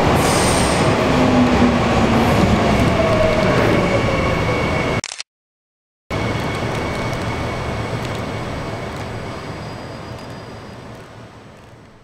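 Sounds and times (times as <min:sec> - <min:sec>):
subway train rumbling: 0:00.0 - 0:05.0, 0:06.1 - 0:12.0.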